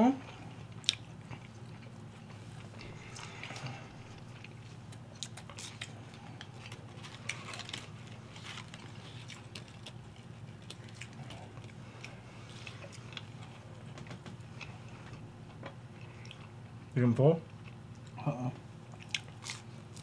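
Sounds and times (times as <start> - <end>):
steady low hum: 0.0 - 20.0
people chewing: 0.2 - 16.9, 17.5 - 20.0.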